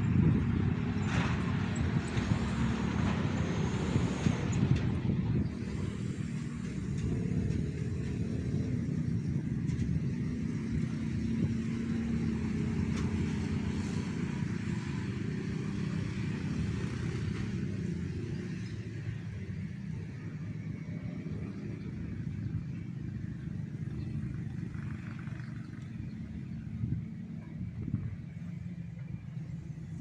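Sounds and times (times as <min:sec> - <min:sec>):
truck engines droning: 0:00.0 - 0:30.0.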